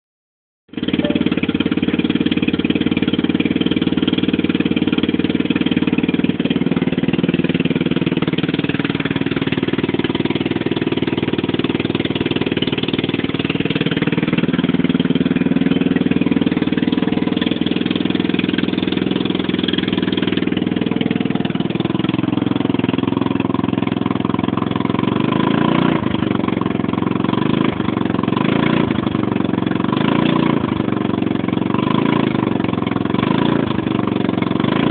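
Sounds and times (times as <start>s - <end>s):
scooter engine running loudly: 0.7s - 34.9s.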